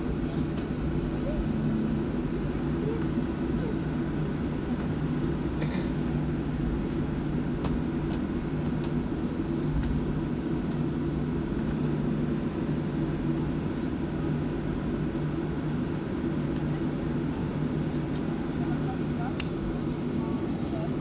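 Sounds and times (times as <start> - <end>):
jet engines humming in cabin: 0.0 - 21.0.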